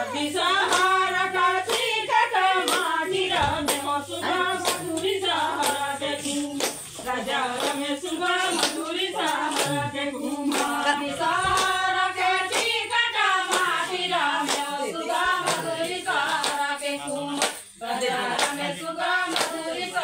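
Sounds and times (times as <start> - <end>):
hands clapping rhythmically: 0.0 - 20.0
women singing folk song: 0.0 - 20.0.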